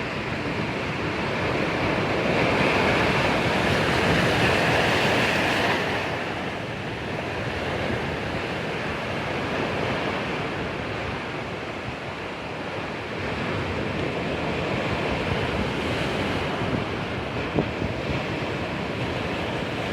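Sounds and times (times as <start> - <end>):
sea waves breaking on shore: 0.0 - 19.9.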